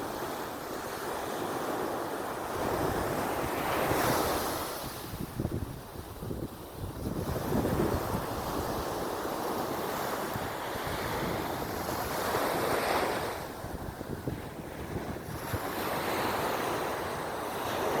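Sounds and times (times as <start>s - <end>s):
sea waves washing ashore: 0.0s - 18.0s
wind buffeting microphone: 2.4s - 18.0s.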